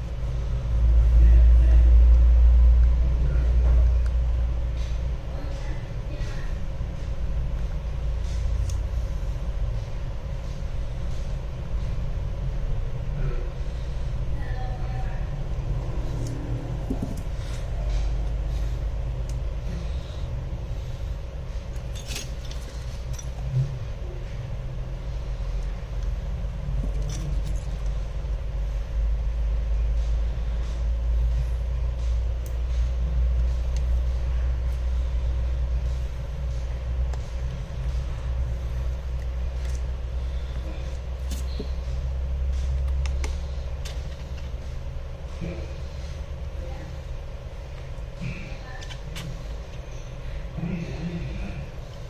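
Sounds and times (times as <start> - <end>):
faint constant hum: 0.0 - 52.0
low background rumble: 0.0 - 52.0.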